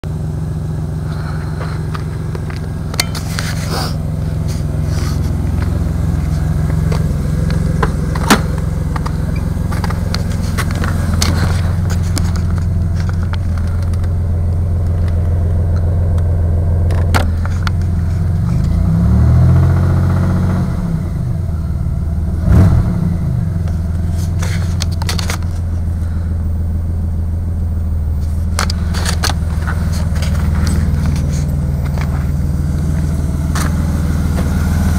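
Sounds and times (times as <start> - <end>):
engine revving: 0.0 - 26.3, 28.0 - 34.9
car engine idling with knock: 0.0 - 34.9.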